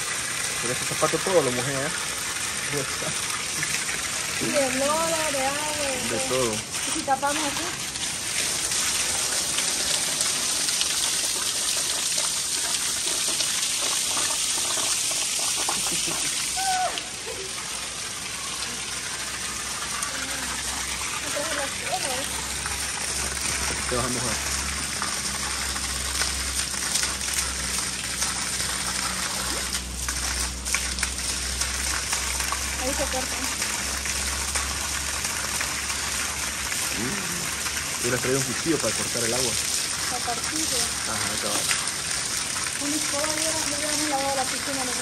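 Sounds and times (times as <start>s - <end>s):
water gushing from a pipe: 0.0s - 45.0s
water splashing on tiles: 0.0s - 45.0s.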